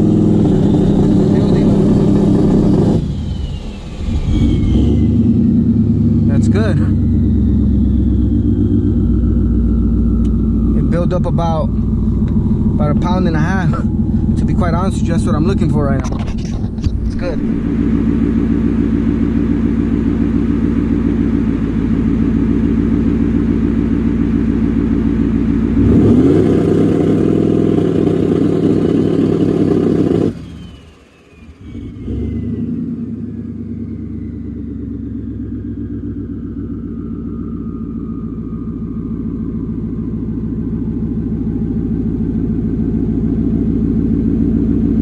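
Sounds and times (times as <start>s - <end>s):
car engine running and revving: 0.0s - 45.0s.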